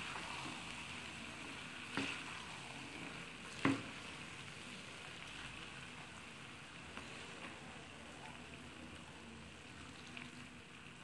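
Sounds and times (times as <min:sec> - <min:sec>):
spatula stirring in wok: 0:00.0 - 0:10.6
soft steady sizzle: 0:00.0 - 0:11.0.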